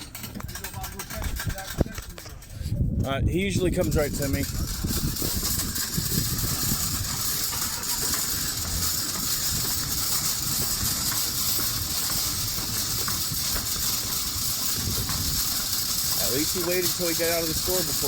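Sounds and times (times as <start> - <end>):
metal shopping cart rattling: 0.0 - 18.0.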